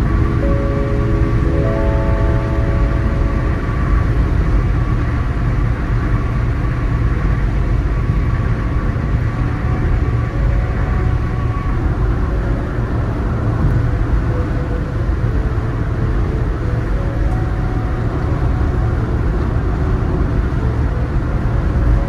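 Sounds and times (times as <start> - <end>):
car road noise from inside cabin: 0.0 - 22.0.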